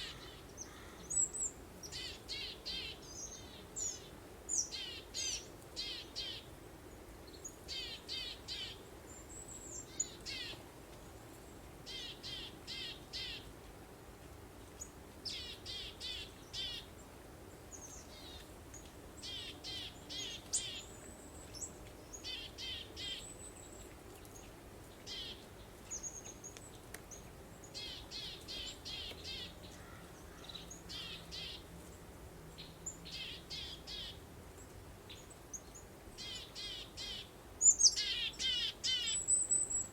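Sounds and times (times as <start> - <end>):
songbirds chirping: 0.0 - 13.8, 14.4 - 39.9
soft breeze: 0.0 - 39.9.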